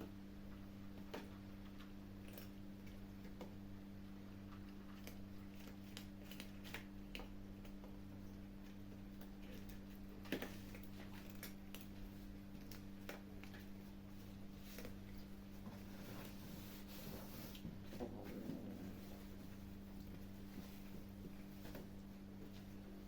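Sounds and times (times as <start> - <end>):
low electrical hum: 0.0 - 23.0
kittens chewing food: 0.4 - 23.0.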